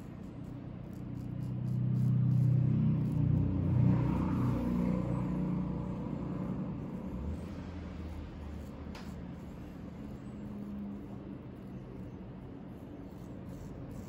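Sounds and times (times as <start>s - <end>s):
razor scraping stubble: 0.0s - 14.0s.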